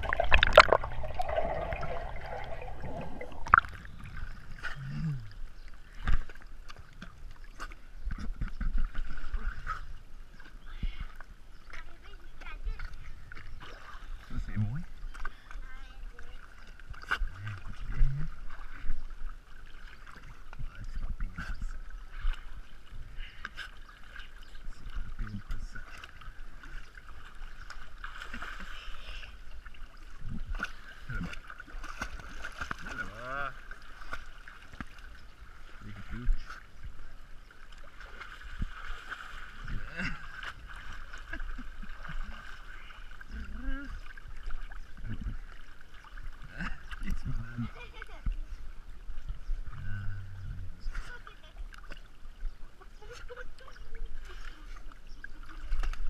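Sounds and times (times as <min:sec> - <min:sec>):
pool water sloshing and splashing: 0:00.0 - 0:56.0.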